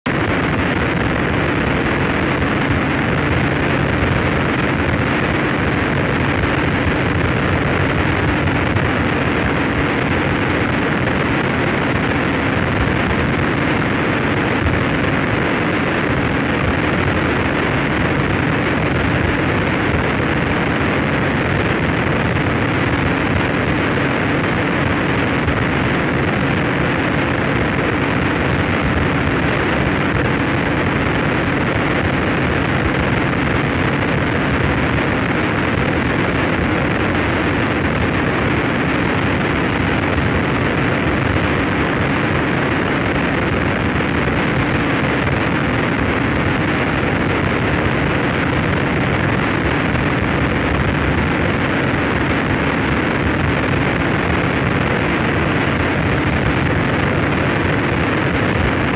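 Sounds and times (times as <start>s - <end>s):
dense distorted noise wall: 0.0s - 58.9s.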